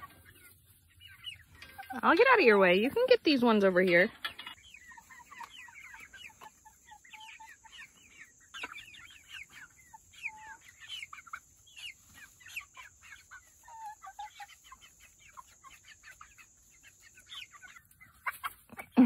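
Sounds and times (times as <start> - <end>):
chicks chirping and clucking: 0.0 - 19.0.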